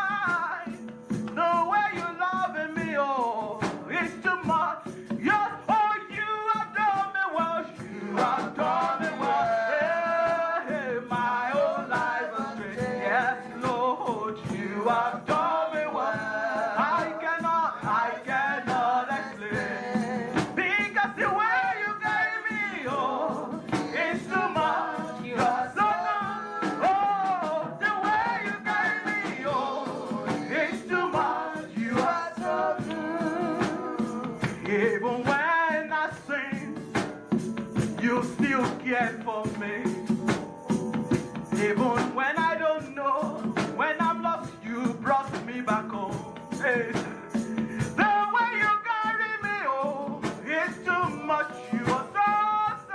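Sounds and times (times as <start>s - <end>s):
gospel worship singing: 0.0s - 52.9s
instrumental accompaniment: 0.0s - 52.9s.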